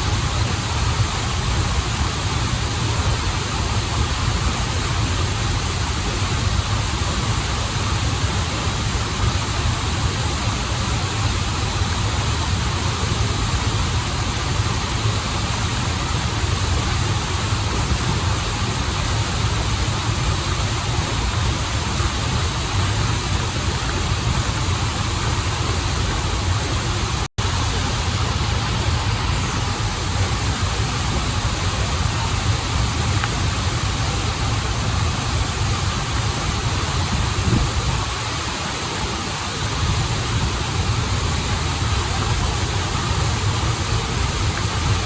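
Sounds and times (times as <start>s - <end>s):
waterfall and river rushing: 0.0s - 45.0s.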